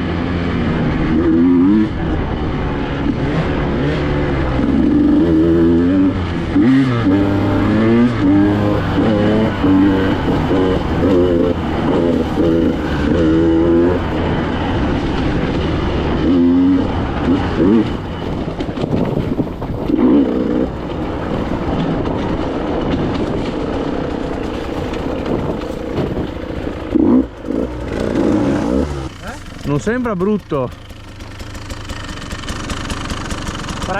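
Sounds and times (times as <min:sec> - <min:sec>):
two-stroke motorcycle engine revving: 0:00.0 - 0:33.9.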